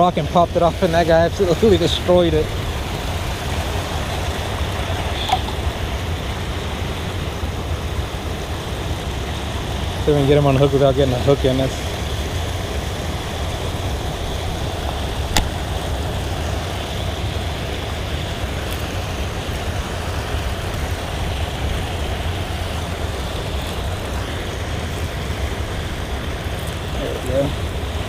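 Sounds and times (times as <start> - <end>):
water rushing over a weir: 0.0 - 28.0.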